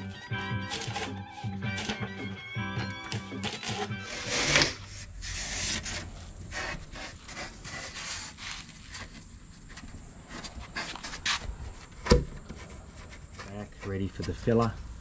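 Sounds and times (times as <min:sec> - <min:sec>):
gloved hand scraping surfboard: 0:00.0 - 0:15.0.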